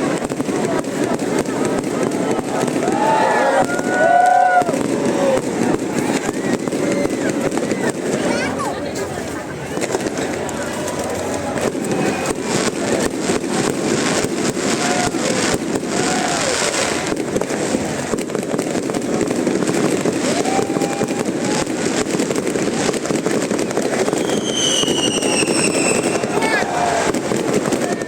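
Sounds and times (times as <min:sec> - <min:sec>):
fireworks popping and banging: 0:00.0 - 0:28.0
large crowd noise: 0:00.0 - 0:28.0.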